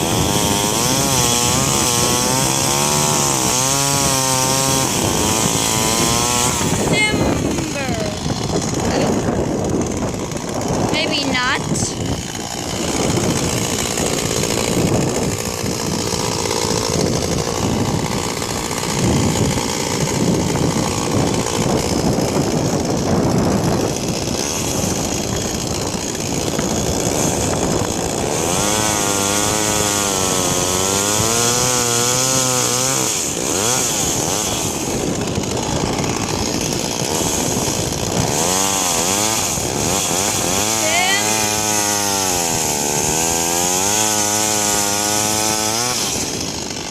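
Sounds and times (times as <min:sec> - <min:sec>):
chainsaw running: 0:00.0 - 0:46.9.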